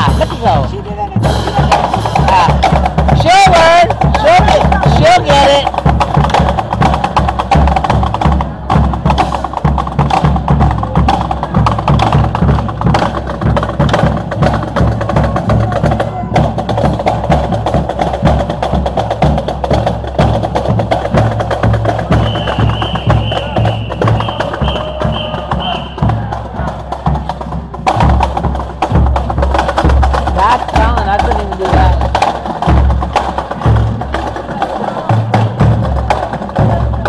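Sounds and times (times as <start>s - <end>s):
bass drum beats: 0.0s - 37.0s
marching drumline: 0.0s - 37.0s.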